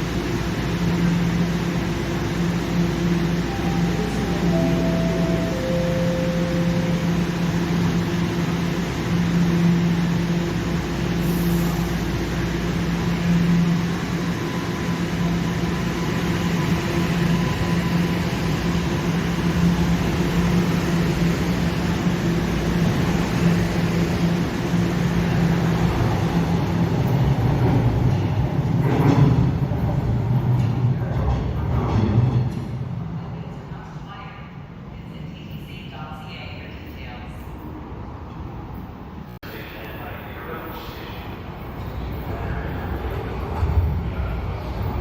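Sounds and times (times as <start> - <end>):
subway train rumbling: 0.0 - 45.0.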